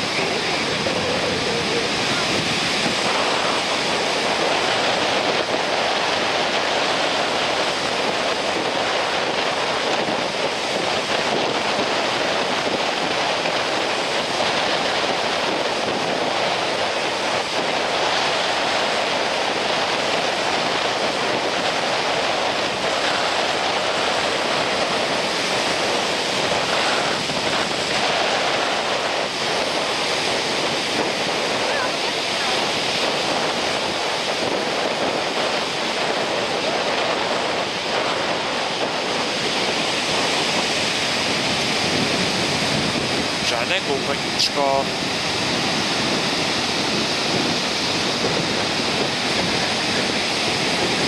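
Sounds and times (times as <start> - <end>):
sea surf breaking on beach: 0.0 - 51.0
wind on microphone: 0.0 - 51.0.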